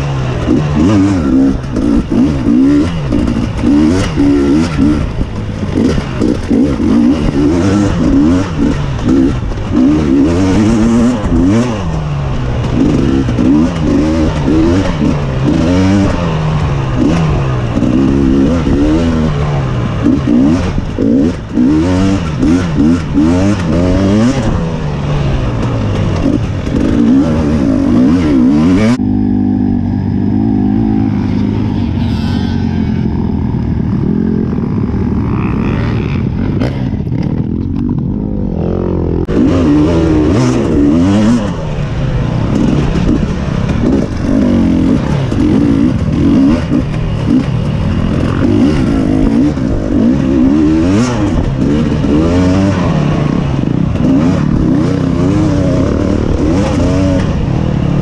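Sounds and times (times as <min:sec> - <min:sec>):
off-road engine revving: 0:00.0 - 0:58.0.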